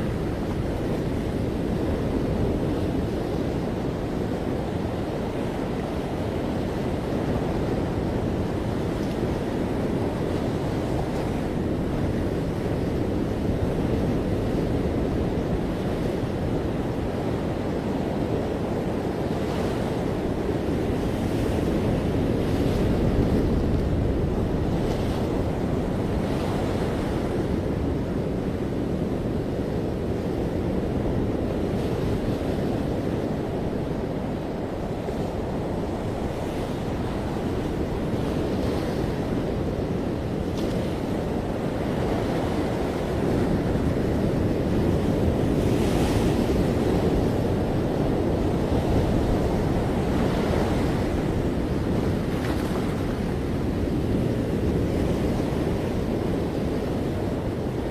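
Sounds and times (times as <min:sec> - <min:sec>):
waves breaking on beach: 0:00.0 - 0:57.9
wind rumbling on microphone: 0:00.0 - 0:57.9.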